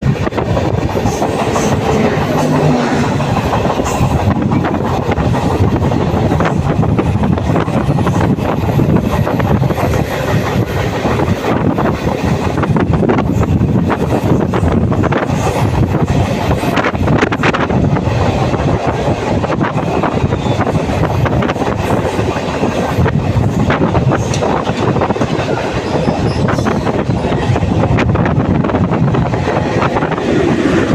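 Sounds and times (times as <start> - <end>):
train wheels on rails: 0.0 - 30.9.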